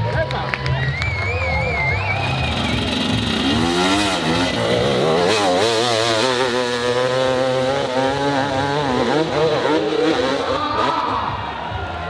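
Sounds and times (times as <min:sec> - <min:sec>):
dirt bike engine revving: 0:01.5 - 0:11.5.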